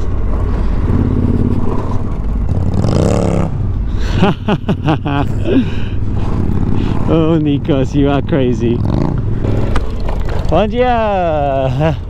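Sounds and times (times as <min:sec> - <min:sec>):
motorcycle engine running: 0:00.0 - 0:03.8, 0:04.7 - 0:11.9
wind and road noise: 0:00.0 - 0:12.0.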